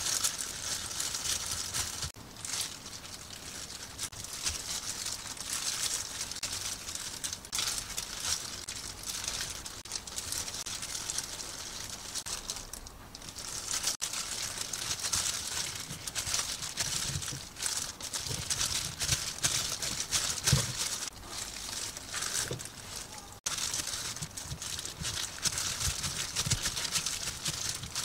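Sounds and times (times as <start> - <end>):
plastic gloves crinkling: 0.0 - 28.0.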